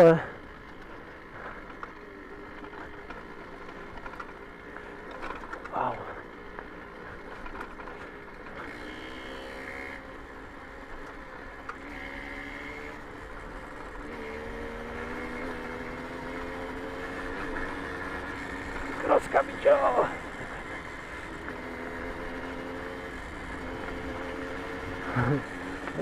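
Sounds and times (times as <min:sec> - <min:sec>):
moped engine running: 0:00.0 - 0:26.0.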